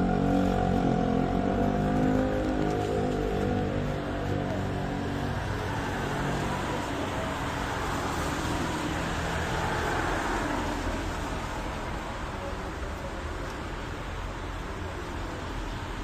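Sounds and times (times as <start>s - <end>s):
low traffic rumble: 0.0s - 16.0s
tyres hissing on wet road: 1.2s - 16.0s.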